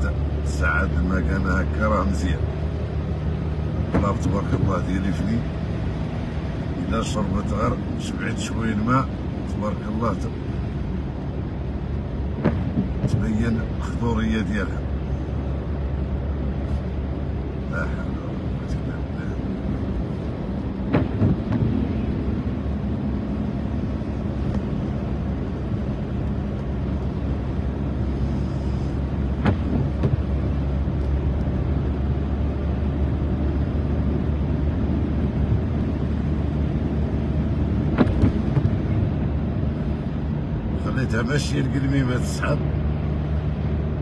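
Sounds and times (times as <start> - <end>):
car engine and tyre drone: 0.0 - 44.0.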